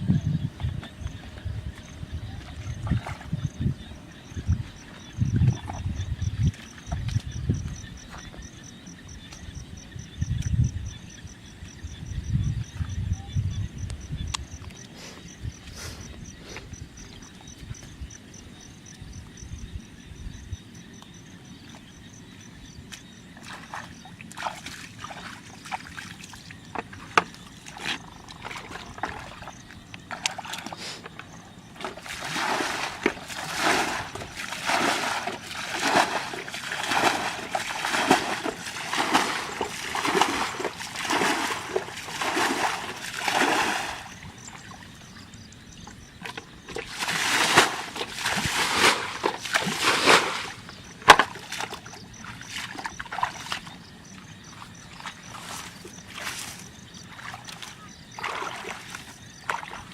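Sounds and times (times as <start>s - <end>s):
water splashing rhythmically: 0.6s - 11.8s, 21.2s - 59.9s.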